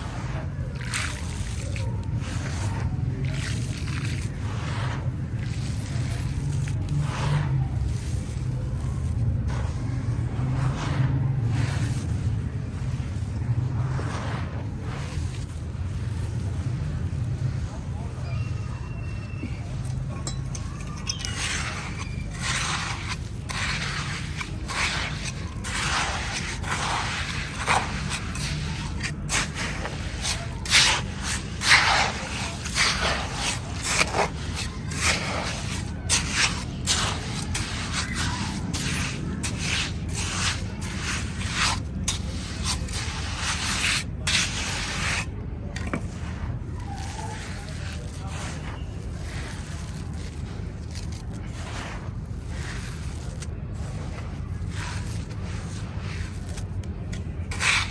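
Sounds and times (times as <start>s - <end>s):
sand-cement mixture being scraped: 0.0s - 57.9s.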